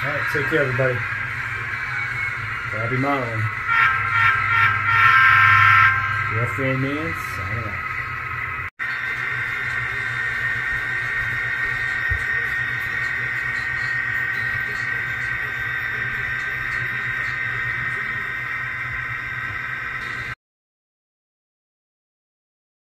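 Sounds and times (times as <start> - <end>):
model train whine and hum: 0.0 - 20.4.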